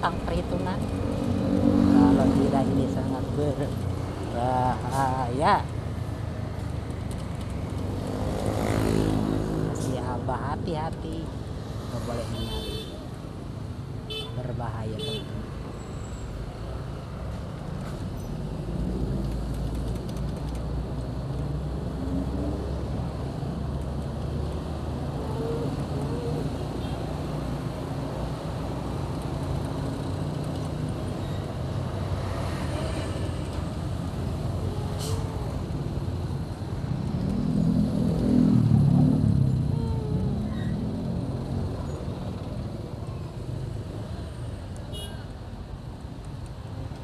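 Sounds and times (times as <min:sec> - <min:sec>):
road noise: 0:00.0 - 0:47.0.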